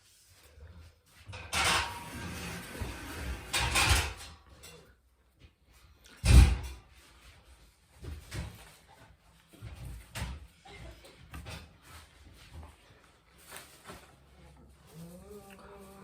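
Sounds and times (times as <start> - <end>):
objects scraping and rustling: 0.0 - 5.0, 6.8 - 16.0.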